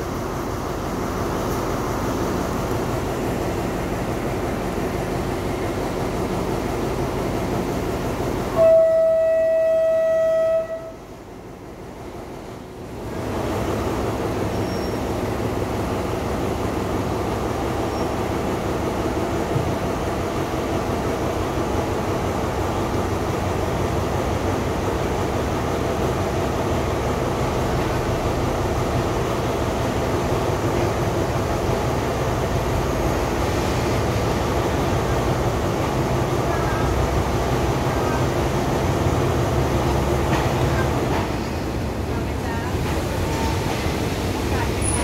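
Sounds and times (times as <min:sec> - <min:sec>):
diesel train engine hum: 0:00.0 - 0:45.0
train rumble: 0:00.0 - 0:45.0.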